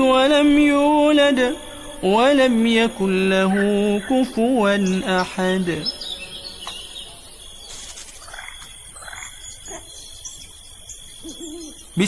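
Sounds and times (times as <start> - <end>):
bird chirps: 0.0 - 12.0
insect trill: 0.0 - 12.0.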